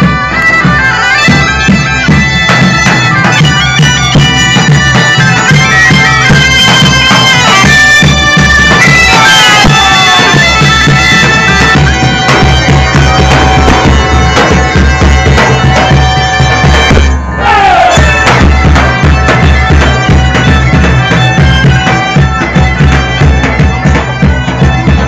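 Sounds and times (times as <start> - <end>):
bagpipes with drone: 0.0 - 25.0
drum beating: 0.0 - 25.0
reed pipes playing: 0.0 - 25.0.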